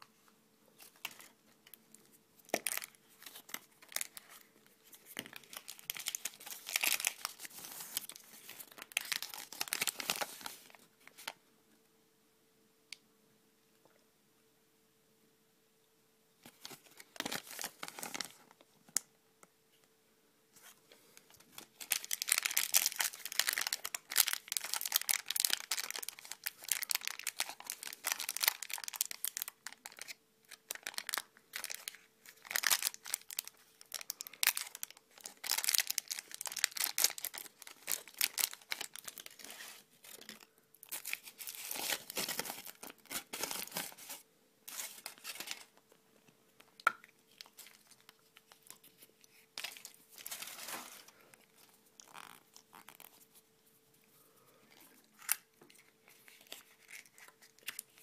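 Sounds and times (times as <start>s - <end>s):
packaging crinkling and tearing: 0.8s - 1.8s, 2.4s - 11.4s, 16.4s - 18.6s, 21.2s - 45.9s, 46.6s - 53.3s, 54.7s - 58.0s.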